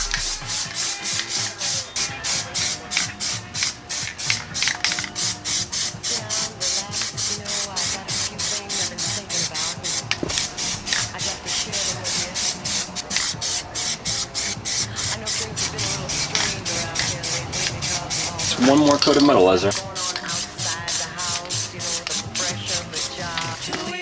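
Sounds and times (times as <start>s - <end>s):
background music with a steady beat: 0.0s - 24.0s.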